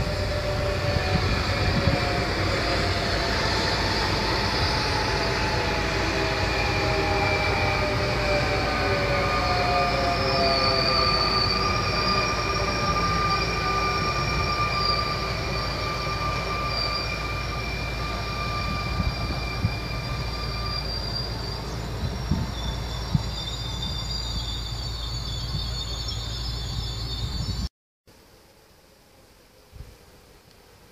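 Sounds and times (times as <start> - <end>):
high whine: 0.0 - 27.7
train low rumble: 0.0 - 27.7.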